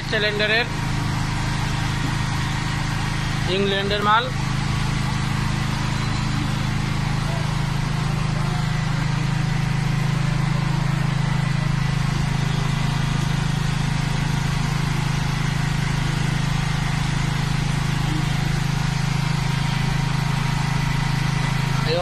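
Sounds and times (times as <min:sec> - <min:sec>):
diesel generator droning: 0:00.0 - 0:22.0.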